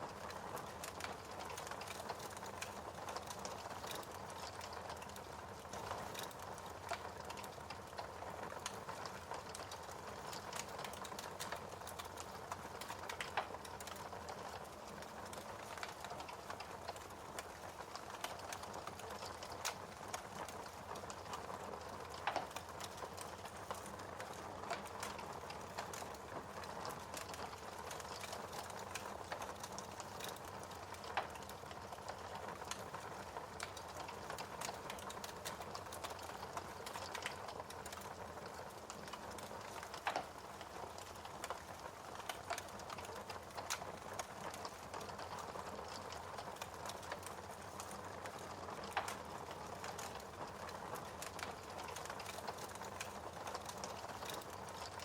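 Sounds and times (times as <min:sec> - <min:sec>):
wood fire hissing: 0:00.0 - 0:55.0
fire pops and snaps: 0:00.1 - 0:55.0.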